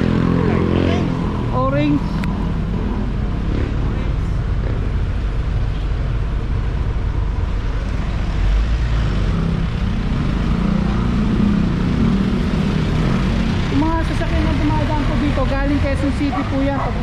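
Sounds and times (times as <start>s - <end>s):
street traffic noise: 0.0s - 17.0s
vehicle engine running nearby: 0.0s - 17.0s.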